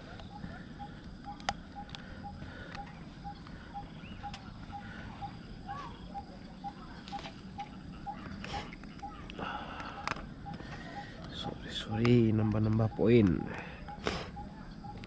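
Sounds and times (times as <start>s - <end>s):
other birds chirping: 0.0s - 15.0s.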